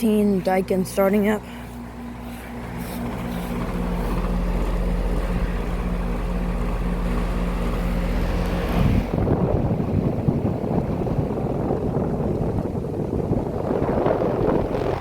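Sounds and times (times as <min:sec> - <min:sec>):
air conditioner compressor hum: 0:00.0 - 0:15.0
fan air rush: 0:00.0 - 0:15.0
wind buffeting microphone: 0:02.7 - 0:15.0.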